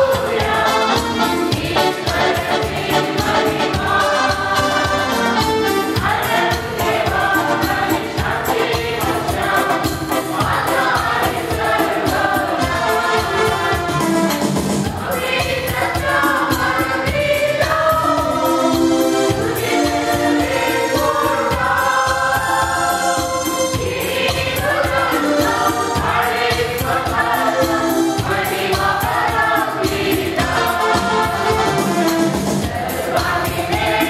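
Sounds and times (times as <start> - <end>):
mixed choir singing: 0.0 - 34.0.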